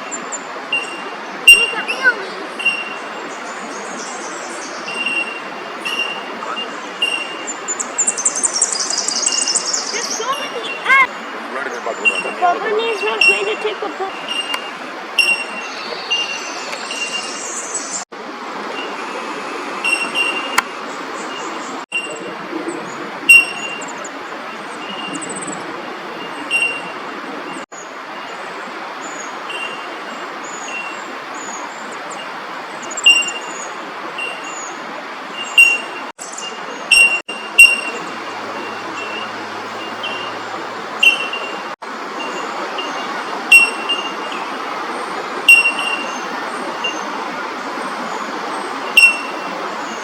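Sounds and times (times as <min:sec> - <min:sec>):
birds chirping: 0:00.0 - 0:18.1, 0:18.8 - 0:50.0
road traffic hum: 0:00.0 - 0:50.0.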